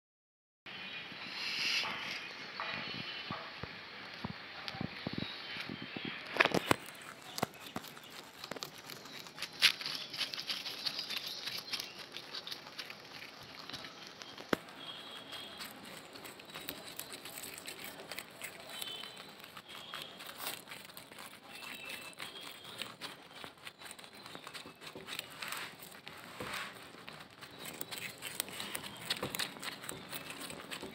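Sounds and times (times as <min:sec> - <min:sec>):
rabbits crunching carrots: 0:04.0 - 0:30.9.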